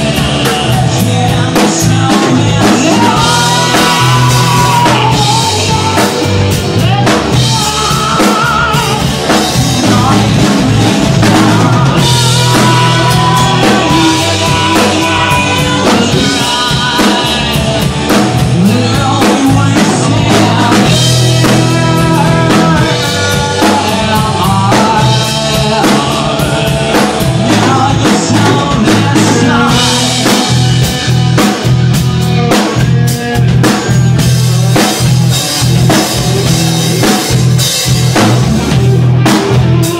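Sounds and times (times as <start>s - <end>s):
rock band music: 0.0s - 39.9s.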